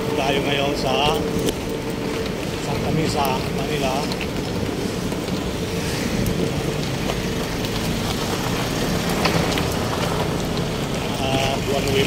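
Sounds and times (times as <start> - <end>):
low hum: 0.0 - 11.3
passing vehicles: 0.0 - 12.0.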